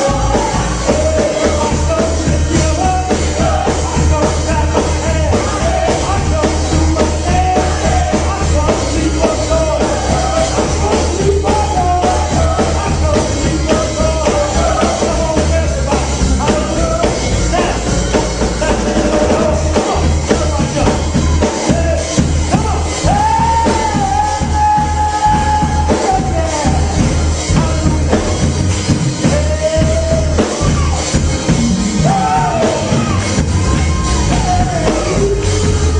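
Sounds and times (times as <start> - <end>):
person singing: 0.0 - 28.5, 29.2 - 35.9
drums: 0.0 - 35.9
heavy bass: 0.0 - 35.9
praise band playing live: 0.0 - 35.9.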